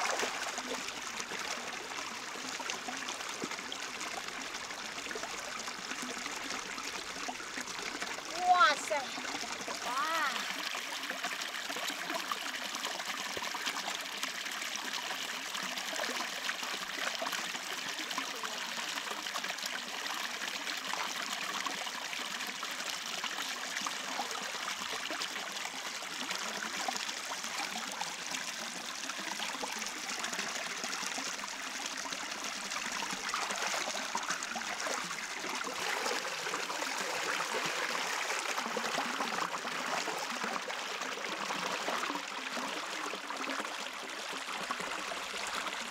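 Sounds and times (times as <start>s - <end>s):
shallow stream water trickling: 0.0s - 45.9s.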